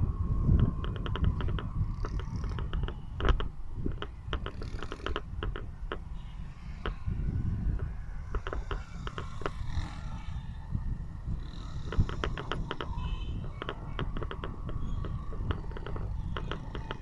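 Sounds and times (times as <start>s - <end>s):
engine and road rumble: 0.0s - 17.0s
clicking and rattling in vehicle: 0.4s - 10.3s, 11.4s - 17.0s.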